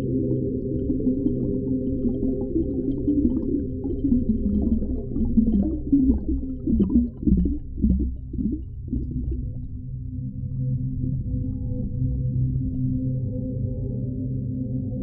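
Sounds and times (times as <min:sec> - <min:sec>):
underwater rumble and gurgling: 0:00.0 - 0:15.0.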